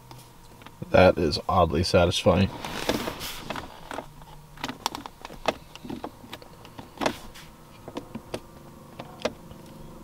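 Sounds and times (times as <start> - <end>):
faint electric motor hum: 0.0 - 10.0.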